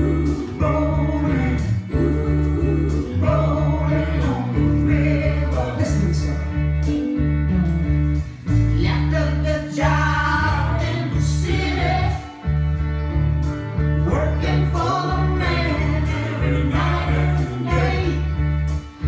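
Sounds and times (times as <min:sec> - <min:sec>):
song with singing: 0:00.0 - 0:07.0, 0:08.7 - 0:12.5, 0:14.0 - 0:19.0
heavy bass line: 0:00.0 - 0:19.0.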